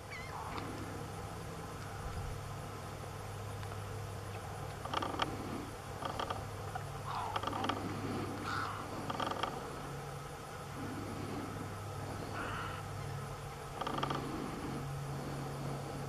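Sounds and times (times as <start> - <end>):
steady low hum: 0.0 - 16.0
wading birds calling: 0.0 - 16.0.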